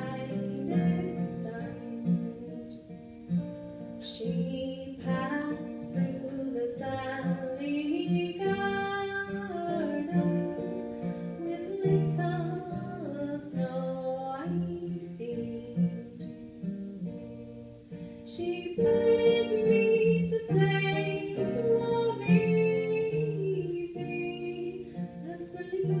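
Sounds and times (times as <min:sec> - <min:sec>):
woman singing slow song: 0:00.0 - 0:03.1, 0:03.9 - 0:17.6, 0:18.2 - 0:26.0
acoustic guitar: 0:00.0 - 0:26.0.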